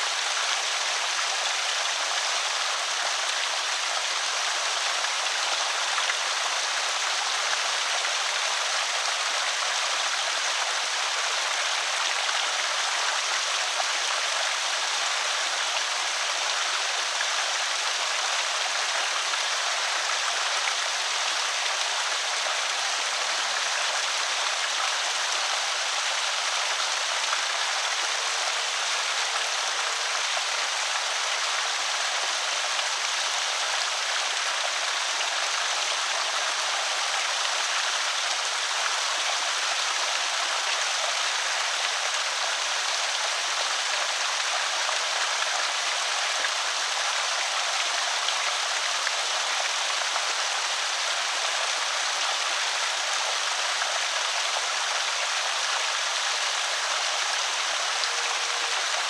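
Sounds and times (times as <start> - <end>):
water pouring over a spillway: 0.0 - 59.0.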